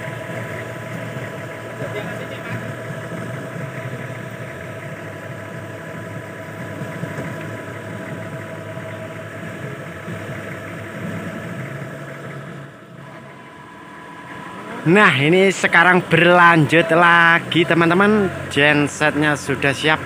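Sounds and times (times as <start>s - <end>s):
forklift engine idling: 0.0s - 20.0s.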